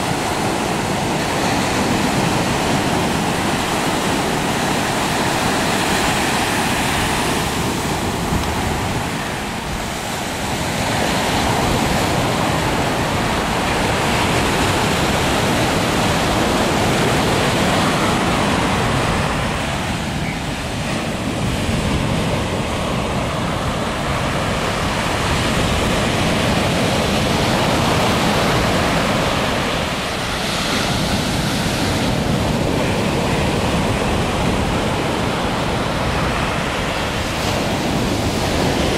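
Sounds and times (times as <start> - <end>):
ocean surf: 0.0 - 38.9
wind buffeting microphone: 0.0 - 38.9.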